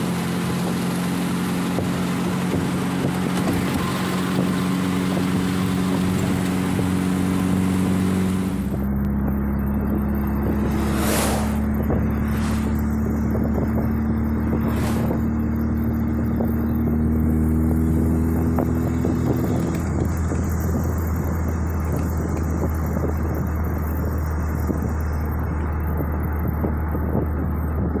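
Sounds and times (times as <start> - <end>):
car engine: 0.0 - 28.0
road and wind rumble: 0.0 - 28.0.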